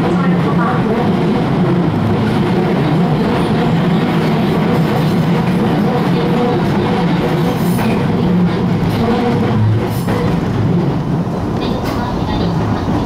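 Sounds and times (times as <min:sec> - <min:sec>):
train wheels rolling on rail: 0:00.0 - 0:13.0.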